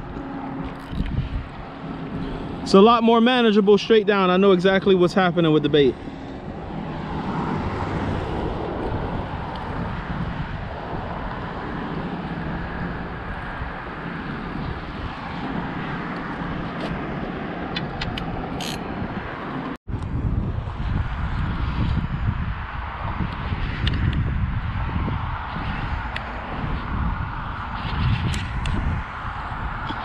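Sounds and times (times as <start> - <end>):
road traffic rumble: 0.0 - 30.0
wind buffeting microphone: 0.0 - 30.0.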